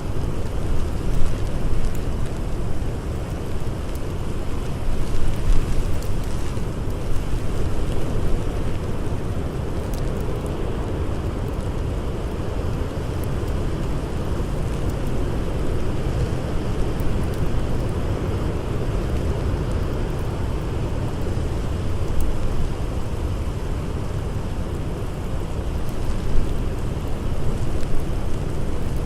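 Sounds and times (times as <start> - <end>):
blizzard wind blowing: 0.0 - 29.0
campfire crackling: 0.0 - 29.0.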